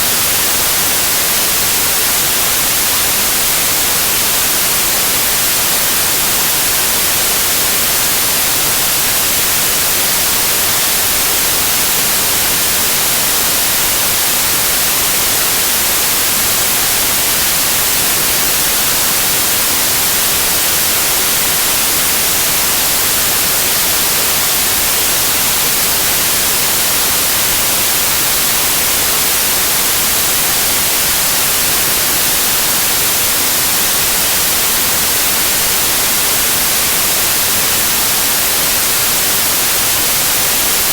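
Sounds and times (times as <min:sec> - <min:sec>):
tv static white noise: 0:00.0 - 0:40.9.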